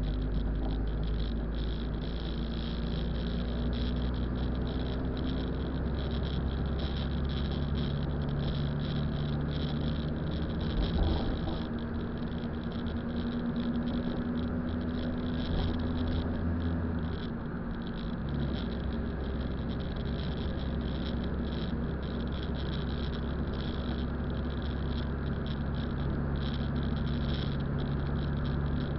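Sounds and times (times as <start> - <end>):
car engine drone: 0.0 - 28.9
road noise: 0.0 - 28.9.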